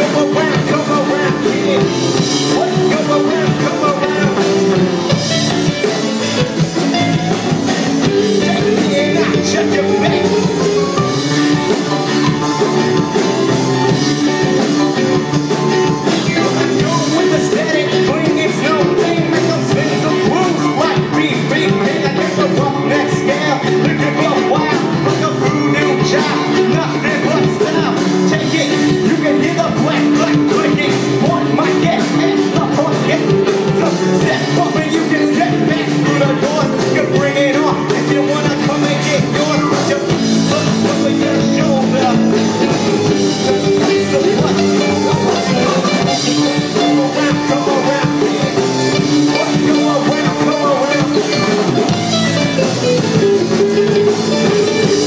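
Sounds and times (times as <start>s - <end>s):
live ska band playing: 0.0s - 55.0s
person singing: 0.0s - 55.0s.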